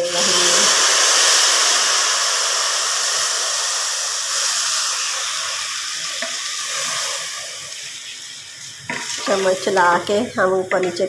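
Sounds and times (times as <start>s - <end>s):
water pouring into a pot: 0.0s - 10.4s.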